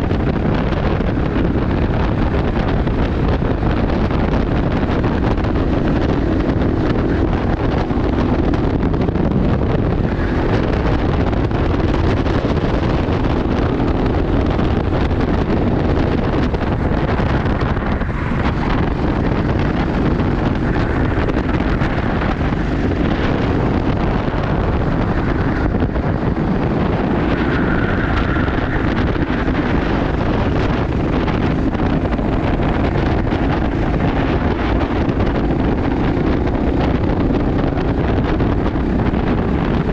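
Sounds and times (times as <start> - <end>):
kart engine running: 0.0 - 39.9
wind noise on microphone: 0.0 - 39.9.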